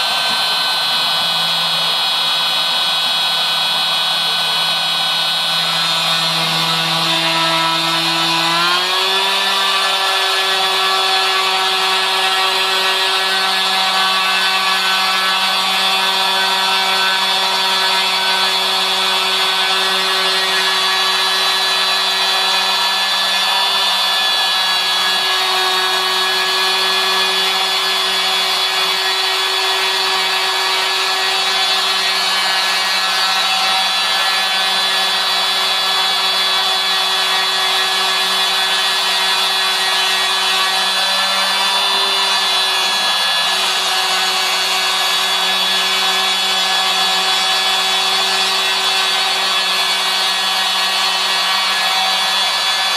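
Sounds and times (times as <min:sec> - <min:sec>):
router spindle motor whining: 0:00.0 - 0:52.9.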